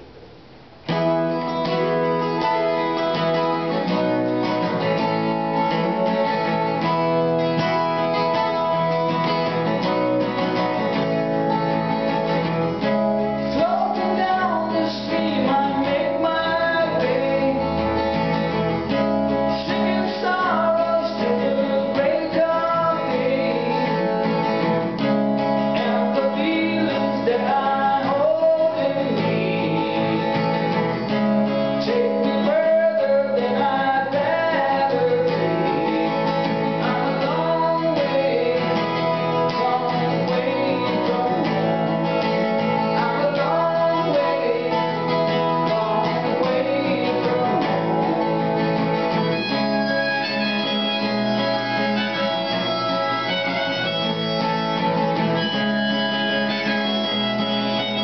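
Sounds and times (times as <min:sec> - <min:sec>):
acoustic guitar strumming chords: 0:00.0 - 0:58.0
bending guitar melody: 0:00.0 - 0:58.0.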